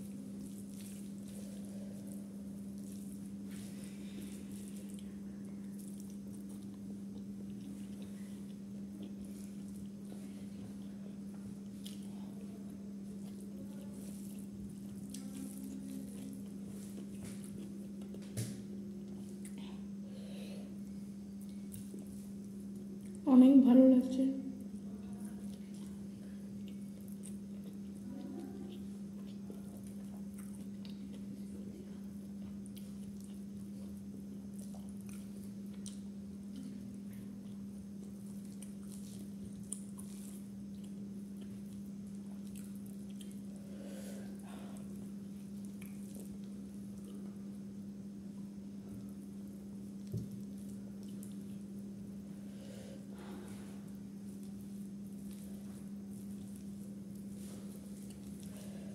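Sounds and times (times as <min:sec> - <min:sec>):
wet chewing: 0:00.0 - 0:19.7, 0:24.8 - 0:47.6, 0:48.3 - 0:52.3, 0:53.1 - 0:58.9
steady low hum: 0:00.0 - 0:58.9.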